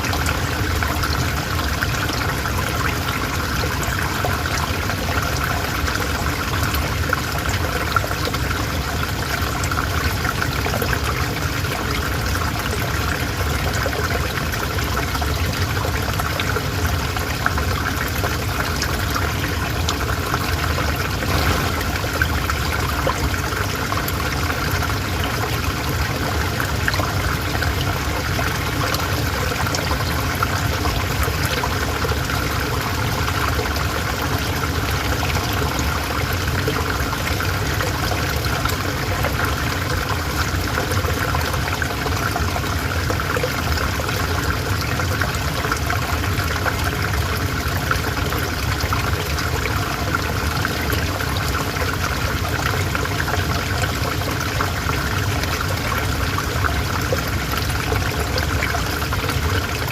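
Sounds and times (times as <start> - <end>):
river water flowing: 0.0 - 59.9
small water splashes: 0.0 - 59.9.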